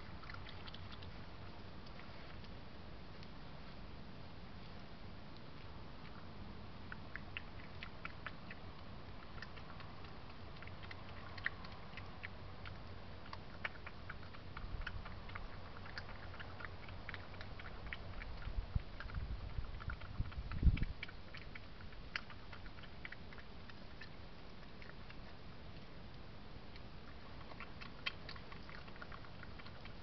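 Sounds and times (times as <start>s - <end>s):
badger chewing with crunching clicks: 0.0s - 30.0s.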